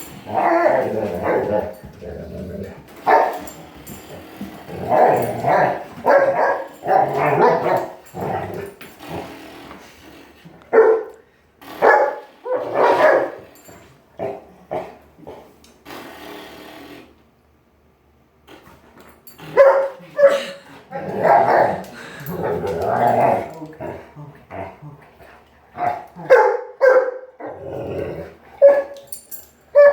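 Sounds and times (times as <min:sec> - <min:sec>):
dog barking and growling: 0:00.0 - 0:09.3, 0:10.5 - 0:15.6, 0:19.4 - 0:29.9.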